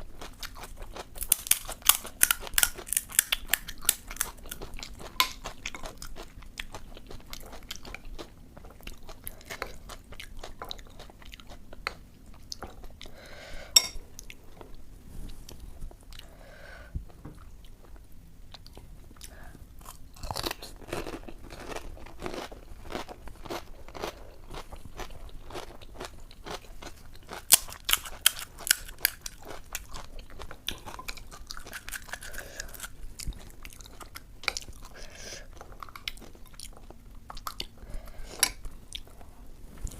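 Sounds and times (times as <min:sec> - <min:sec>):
crunching and chewing crisp shells: 0:00.0 - 0:14.8, 0:17.1 - 0:39.3.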